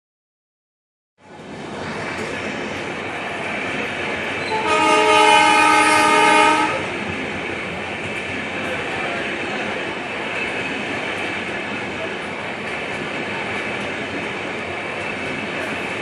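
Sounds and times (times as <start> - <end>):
rolling rumbling noise: 1.2 - 16.0.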